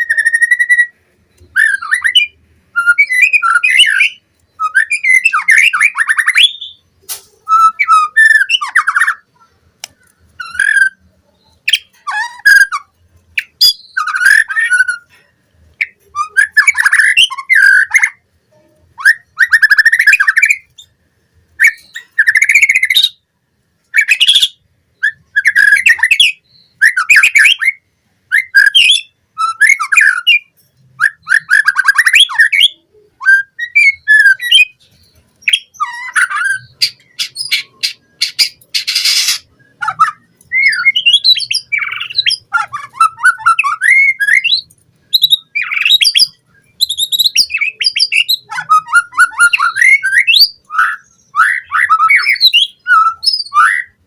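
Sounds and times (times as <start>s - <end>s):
bird singing varied phrases: 0.0s - 15.1s, 15.8s - 54.0s.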